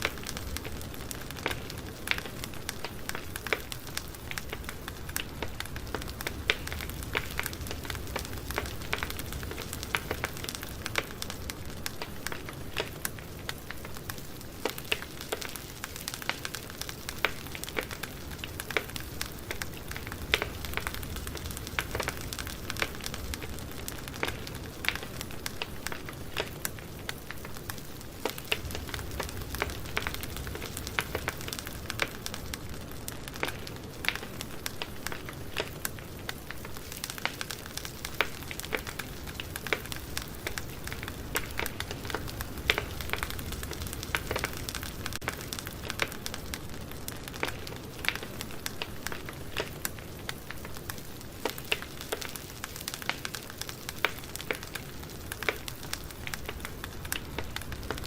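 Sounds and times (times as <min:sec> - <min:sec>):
flames rushing: 0:00.0 - 0:58.0
wood crackling and popping: 0:00.0 - 0:58.0.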